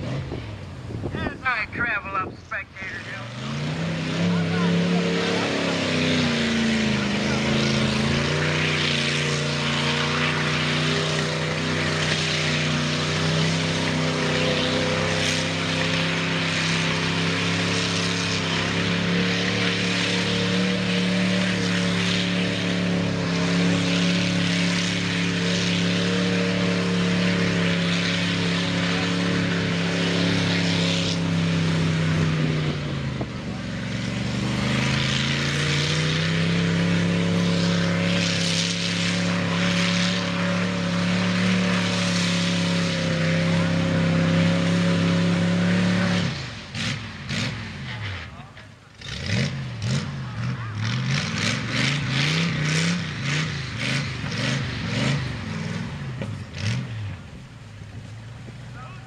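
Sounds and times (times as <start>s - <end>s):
engine running at high revs: 0.0s - 59.0s.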